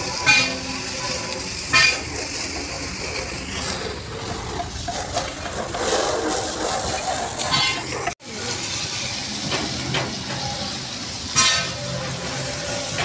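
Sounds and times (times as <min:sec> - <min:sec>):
hose water spraying on metal tank: 0:00.0 - 0:13.0.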